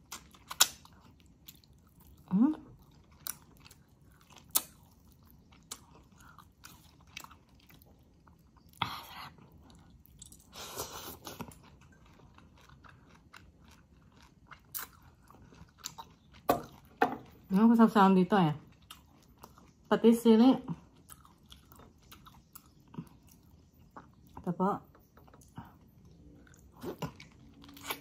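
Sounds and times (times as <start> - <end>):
person chewing: 0.0 - 17.5, 18.7 - 19.9, 20.8 - 24.4, 25.0 - 28.0.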